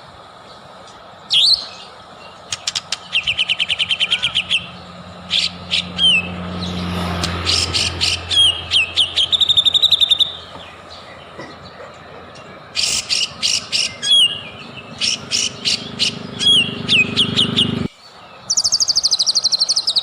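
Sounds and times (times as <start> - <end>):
bird singing trills and whistles: 1.3 - 20.0.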